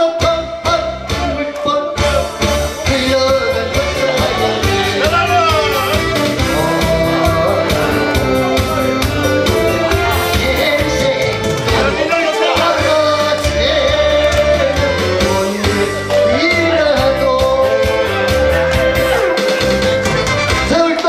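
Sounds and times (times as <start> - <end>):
loud dance music with singing: 0.0 - 21.0.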